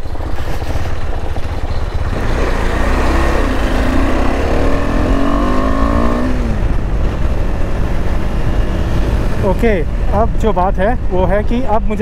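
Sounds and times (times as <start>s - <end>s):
motorcycle engine accelerating: 0.0s - 9.8s.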